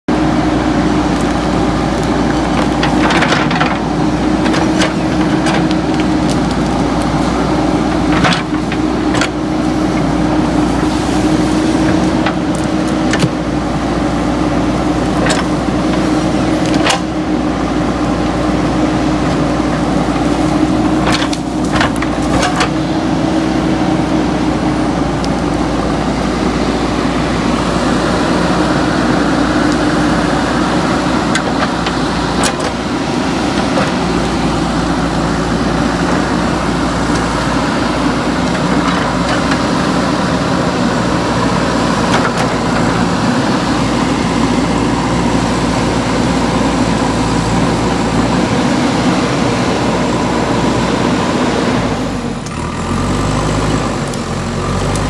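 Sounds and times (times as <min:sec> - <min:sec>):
backhoe diesel engine running: 0:00.1 - 0:55.0.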